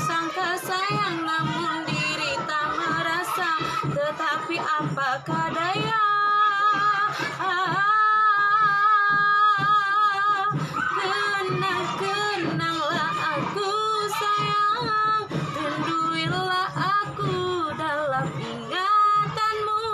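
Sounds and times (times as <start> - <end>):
backing music with low beat: 0.0 - 19.9
woman singing: 0.0 - 19.9.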